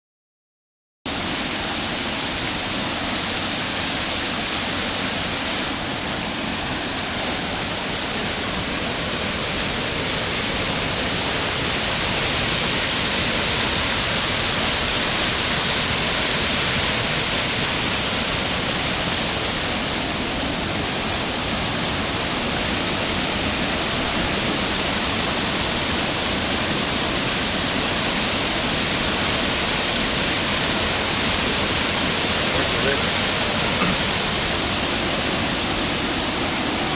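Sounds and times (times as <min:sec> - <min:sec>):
floodwater rushing: 0:01.1 - 0:36.9.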